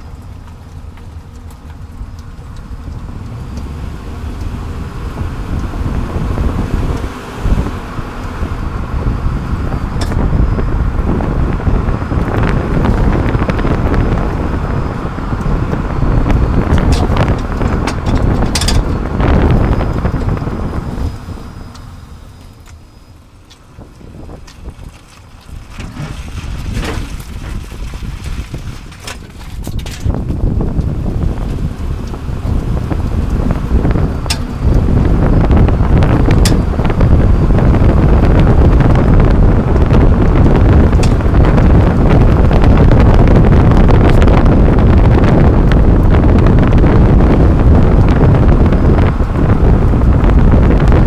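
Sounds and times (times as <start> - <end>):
road tyre and wind noise: 0.0 - 51.0.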